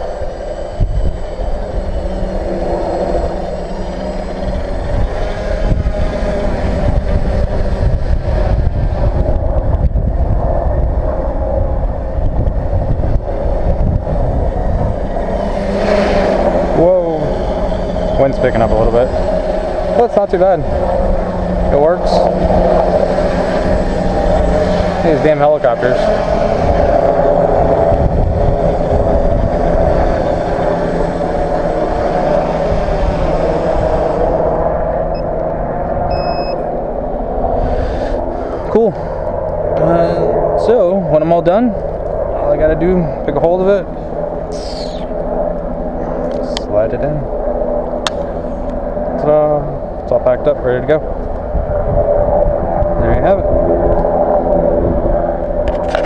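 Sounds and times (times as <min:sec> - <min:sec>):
drone motors whirring: 0:00.0 - 0:56.0
wind rumble on microphone: 0:00.0 - 0:56.0.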